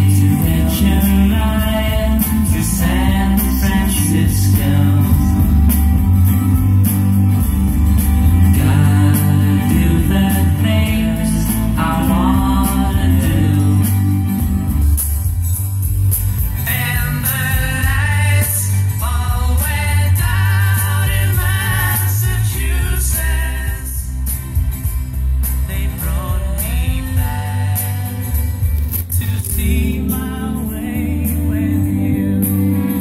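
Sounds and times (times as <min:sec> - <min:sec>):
song with singing and guitar: 0:00.0 - 0:33.0.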